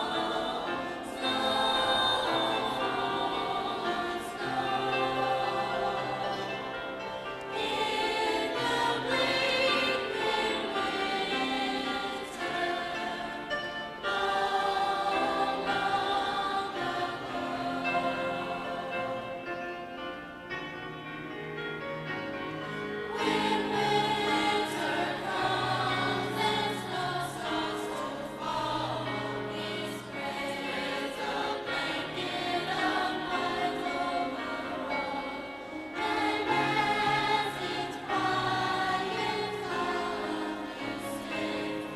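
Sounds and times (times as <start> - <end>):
choir singing in harmony: 0.0 - 41.9.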